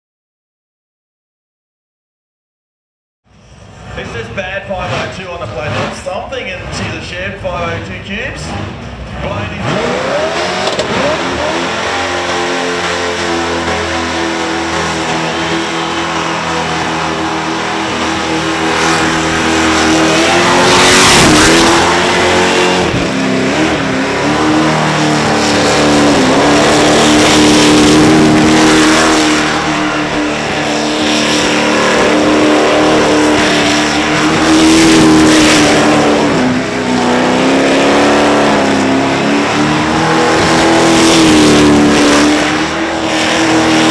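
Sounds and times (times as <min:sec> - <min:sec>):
engine revving high: 0:03.8 - 0:43.9.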